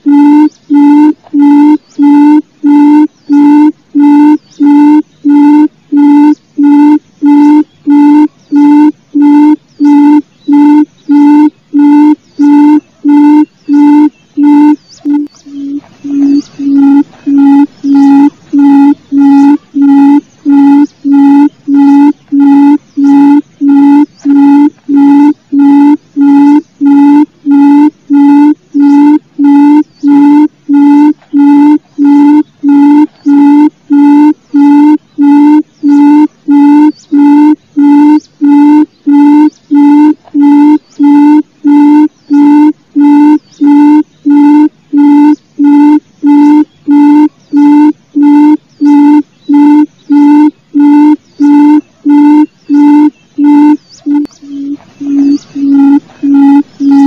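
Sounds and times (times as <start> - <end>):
bird low hooting notes: 0.0 - 57.0.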